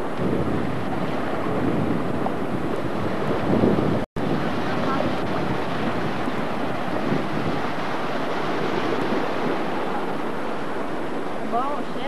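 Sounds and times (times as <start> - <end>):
surf washing on beach: 0.0 - 12.0
wind on microphone: 0.0 - 12.0.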